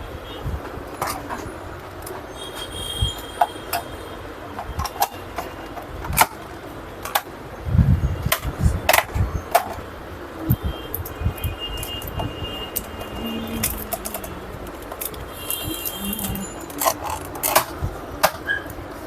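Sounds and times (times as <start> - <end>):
clicks and knocks of parts handled: 0.6 - 2.2, 3.2 - 7.4, 8.3 - 9.9, 10.5 - 19.0.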